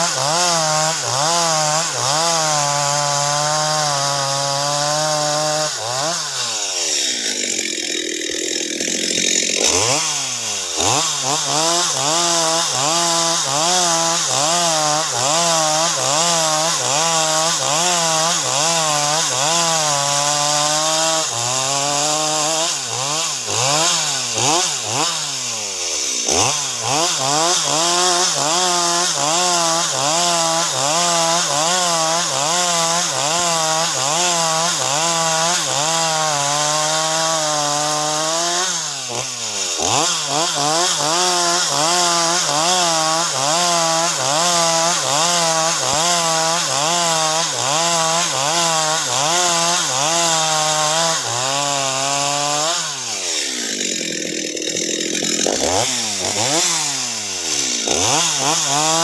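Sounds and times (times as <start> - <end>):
chainsaw cutting through wood: 0.0 - 59.0.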